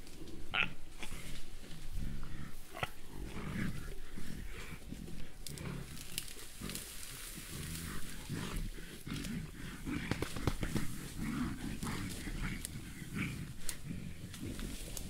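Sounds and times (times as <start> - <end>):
gorilla grunting: 0.4 - 15.0.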